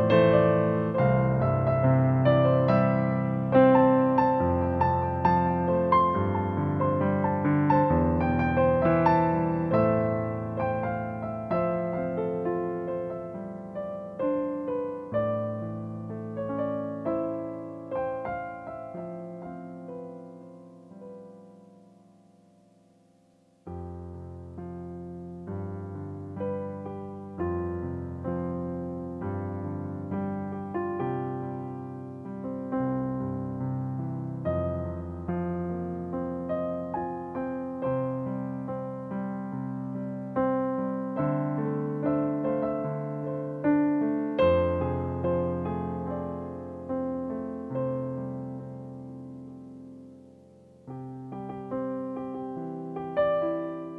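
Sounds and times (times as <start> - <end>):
digital piano chords and melody: 0.0 - 53.9.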